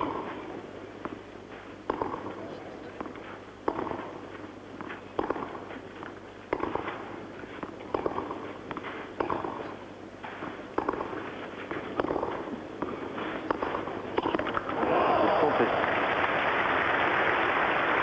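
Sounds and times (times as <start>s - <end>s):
tennis ball hit by racquets: 0.0s - 15.5s.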